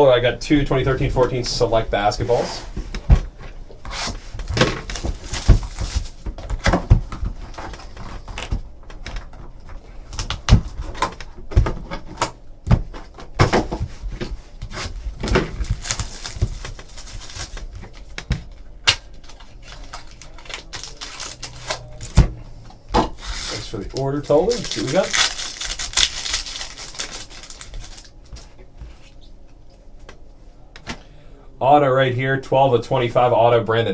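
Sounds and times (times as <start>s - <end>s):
packaging rustling: 1.0s - 12.2s, 13.0s - 29.2s.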